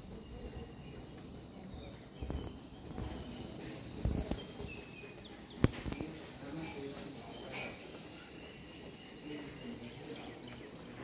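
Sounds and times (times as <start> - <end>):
insect and bird chirps: 0.0 - 11.0
steady background hiss: 0.0 - 11.0.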